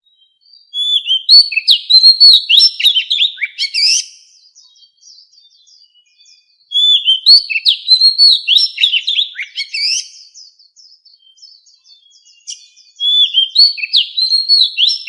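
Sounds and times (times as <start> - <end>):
bird singing whistles: 0.0 - 15.0.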